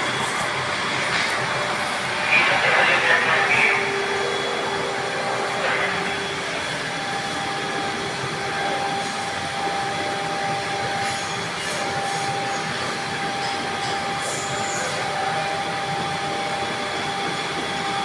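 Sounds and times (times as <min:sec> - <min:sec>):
machine running noise: 0:00.0 - 0:18.0.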